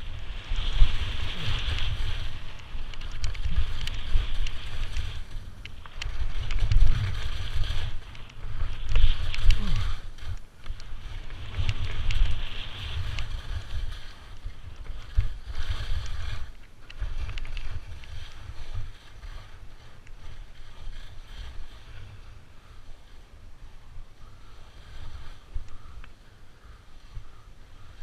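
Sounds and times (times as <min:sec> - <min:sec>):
ski edges scraping snow: 0:00.0 - 0:28.0
wind buffeting microphone: 0:00.0 - 0:28.0.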